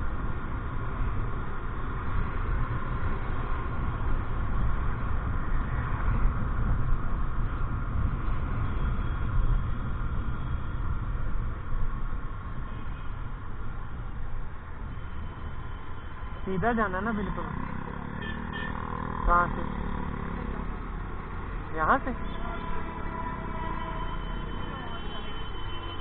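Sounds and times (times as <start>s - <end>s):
motorbike and traffic rumble: 0.0s - 26.0s.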